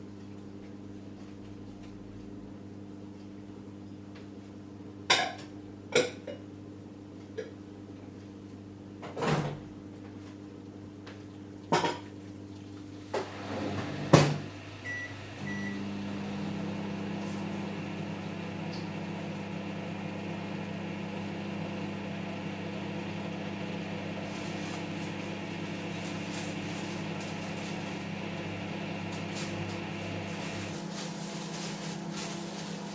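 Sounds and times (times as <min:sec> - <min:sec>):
motor hum with low drone: 0:00.0 - 0:32.9
washing machine humming: 0:00.0 - 0:32.9.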